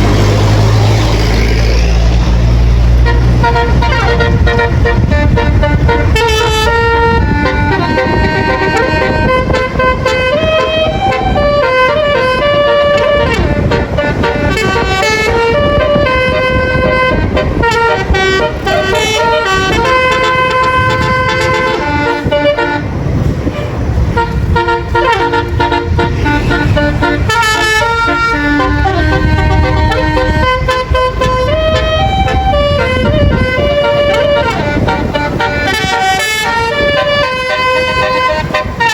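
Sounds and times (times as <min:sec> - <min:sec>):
multi-tone musical bus horn: 0:00.0 - 0:38.9
road and engine noise: 0:00.0 - 0:38.9.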